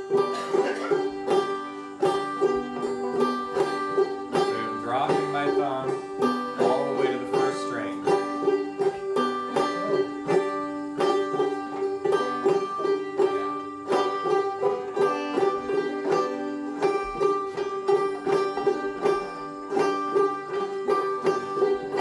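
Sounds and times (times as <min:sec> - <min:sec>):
banjo plucked rhythmically: 0:00.0 - 0:22.0.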